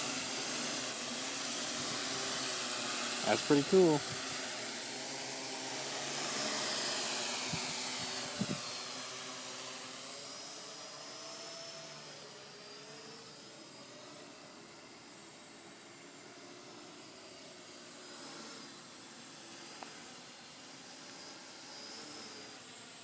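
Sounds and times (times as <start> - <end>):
drone rotors whining: 0.0 - 23.0.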